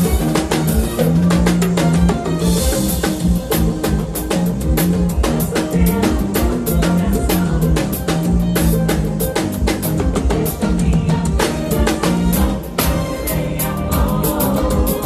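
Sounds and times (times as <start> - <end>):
drum kit fast groove: 0.0 - 15.0
held bass and band notes: 0.0 - 15.0.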